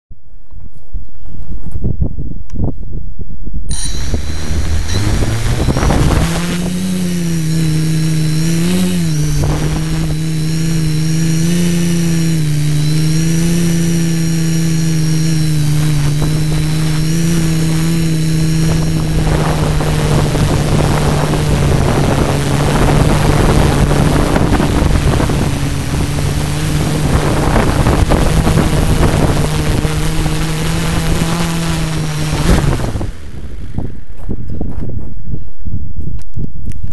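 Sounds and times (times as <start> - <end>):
drone propellers buzzing: 3.7 - 34.6.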